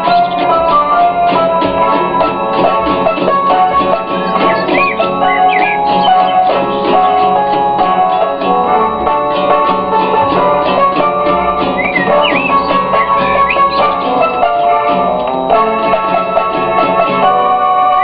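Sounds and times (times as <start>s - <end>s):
instrumental music with drums: 0.0s - 18.0s
plucked guitar: 0.0s - 18.0s.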